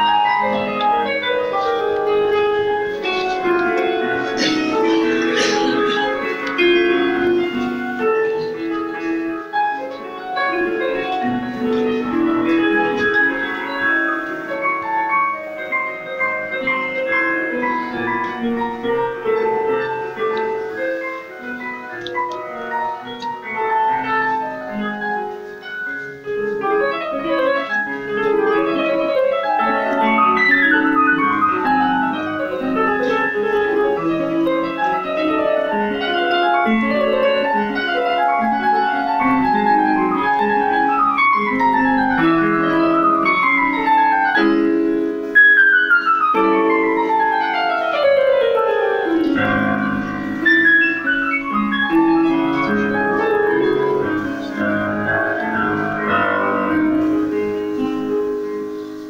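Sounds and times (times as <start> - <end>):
piano with descending runs: 0.0 - 59.0.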